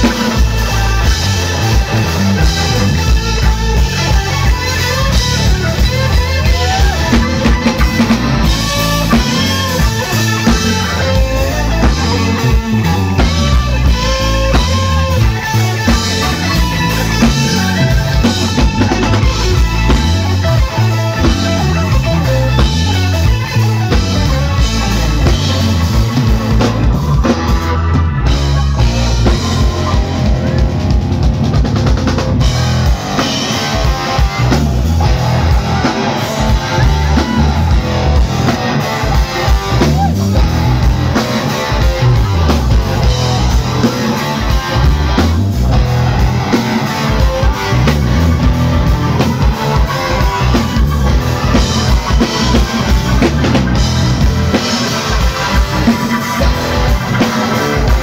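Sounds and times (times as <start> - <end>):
drum kit: 0.0 - 58.0
electric guitar: 0.0 - 58.0
keyboard: 0.0 - 58.0.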